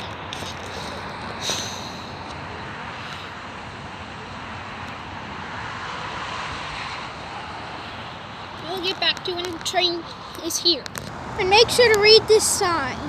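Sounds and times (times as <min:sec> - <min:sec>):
trains rumbling: 0:00.0 - 0:13.0.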